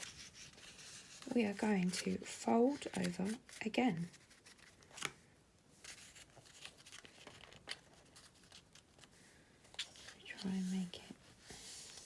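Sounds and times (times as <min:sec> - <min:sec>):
paper rustling and crinkling: 0:00.0 - 0:05.2, 0:05.8 - 0:12.0.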